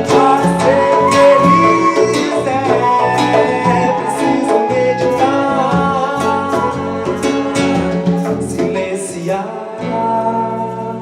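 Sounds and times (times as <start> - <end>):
strummed acoustic guitar: 0.0 - 9.9
man singing: 0.0 - 11.0.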